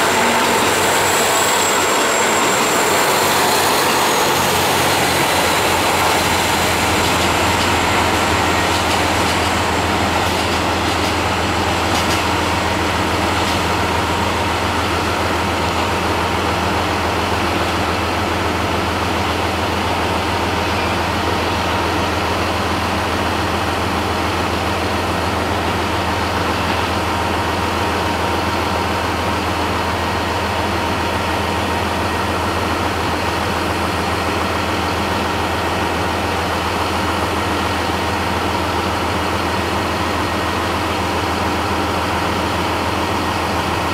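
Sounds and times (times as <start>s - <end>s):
diesel train engines droning: 0.0s - 43.9s.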